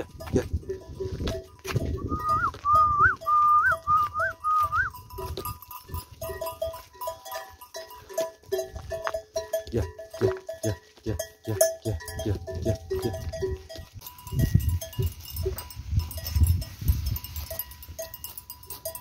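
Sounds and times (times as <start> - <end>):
sheep bells clinking: 0.0 - 19.0.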